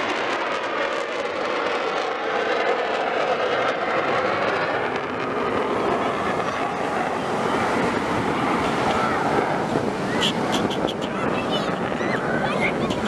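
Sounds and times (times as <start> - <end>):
jet aircraft engine: 0.0 - 13.0.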